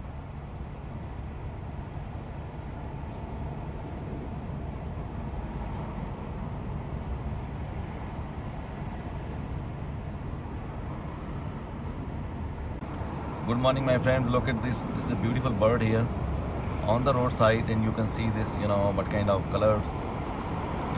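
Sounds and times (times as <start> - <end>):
road traffic rumble: 0.0 - 20.9.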